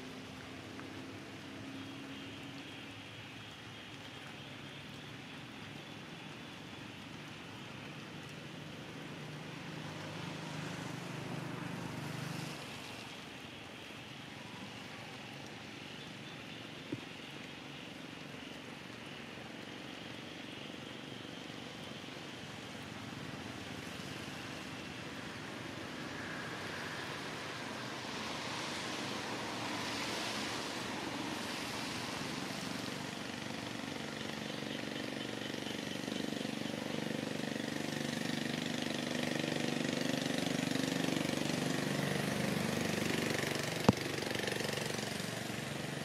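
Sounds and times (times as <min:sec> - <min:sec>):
steady outdoor hiss: 0:00.0 - 0:46.0.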